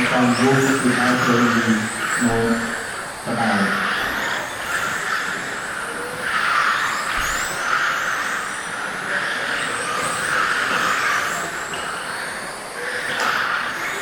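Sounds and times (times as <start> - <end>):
high motor whines: 0.0 - 14.0
rc cars racing: 0.0 - 14.0.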